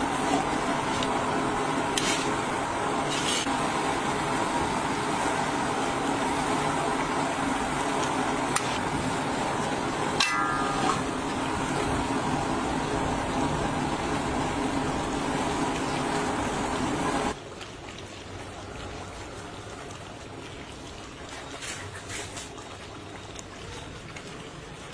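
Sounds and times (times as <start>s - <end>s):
curry bubbling at a boil: 0.0s - 24.9s.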